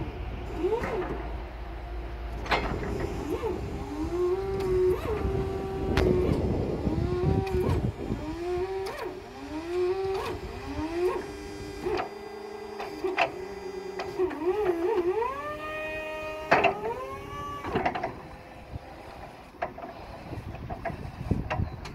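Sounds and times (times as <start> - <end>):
electric motor whining: 2.4 - 21.9.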